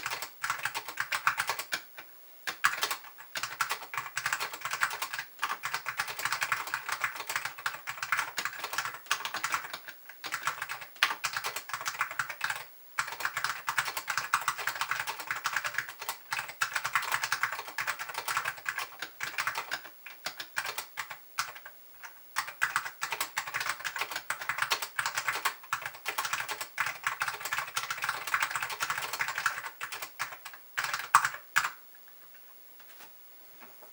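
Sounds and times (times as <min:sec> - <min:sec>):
typing on mechanical keyboard: 0:00.0 - 0:31.8.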